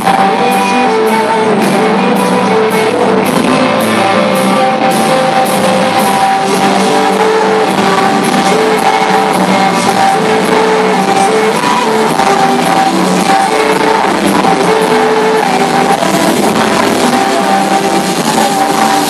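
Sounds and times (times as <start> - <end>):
drum kit beat: 0.0 - 19.0
electric guitar: 0.0 - 19.0.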